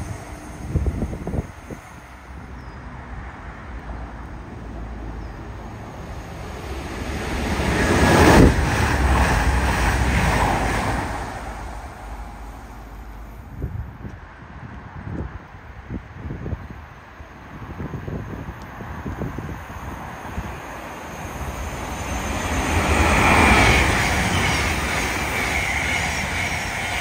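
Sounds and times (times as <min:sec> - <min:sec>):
train passing: 0:00.0 - 0:27.0.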